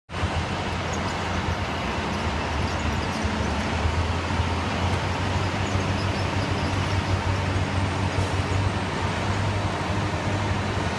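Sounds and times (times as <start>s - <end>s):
diesel truck engines droning: 0.1s - 10.9s
hiss of site and street noise: 0.1s - 10.9s.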